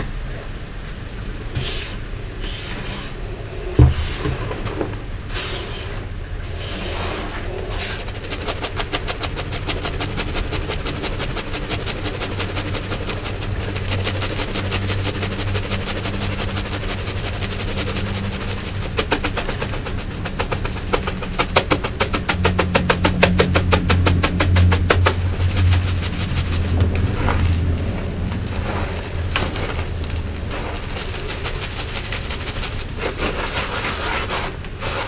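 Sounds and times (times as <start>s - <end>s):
metal sieve rattling: 6.8s - 35.0s.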